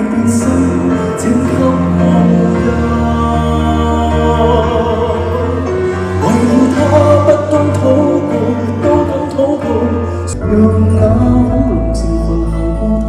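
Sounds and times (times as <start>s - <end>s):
man singing: 0.0s - 13.0s
piano and band: 0.0s - 13.0s.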